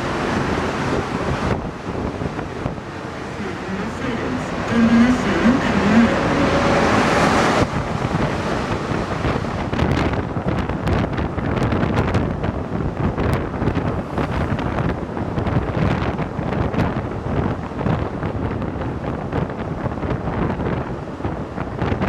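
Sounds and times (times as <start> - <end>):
metro train rumbling: 0.0 - 21.8.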